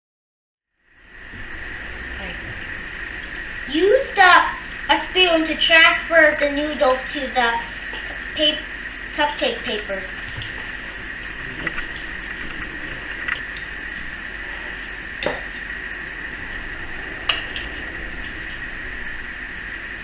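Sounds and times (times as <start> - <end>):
high-pitched hum: 0.8 - 20.0.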